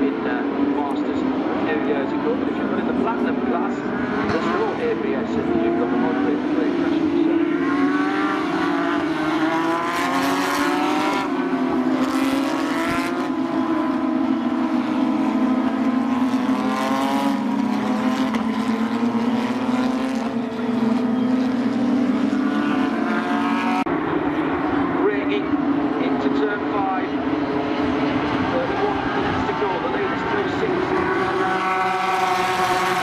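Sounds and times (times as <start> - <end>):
race car engines accelerating past: 0.0 - 33.0.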